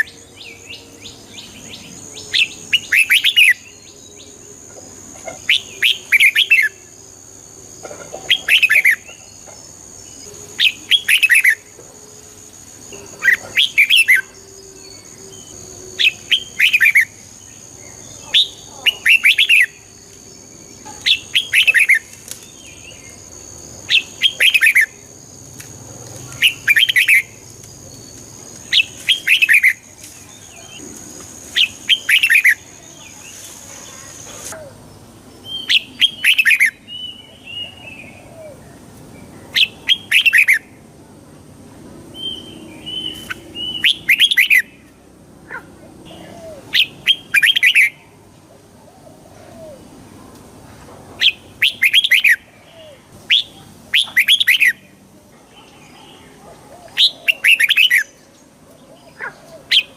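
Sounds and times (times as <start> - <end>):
bulbul warbled song: 0.0 - 11.9, 12.7 - 40.7, 42.2 - 44.9, 46.0 - 50.0, 51.2 - 59.9.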